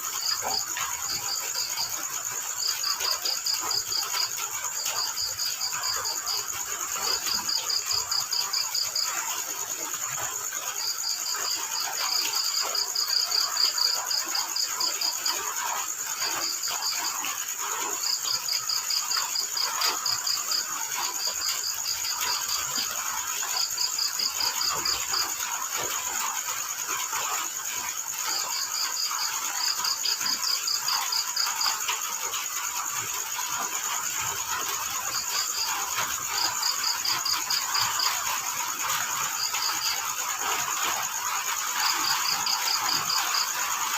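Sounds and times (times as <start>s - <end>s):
field crickets chirping: 0.0s - 43.9s
high-pitched insect trill: 0.0s - 43.9s.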